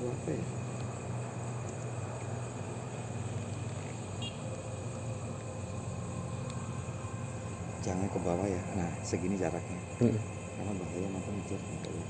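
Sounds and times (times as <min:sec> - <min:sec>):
low background rumble: 0:00.0 - 0:12.0
night insects chirring: 0:00.0 - 0:12.0.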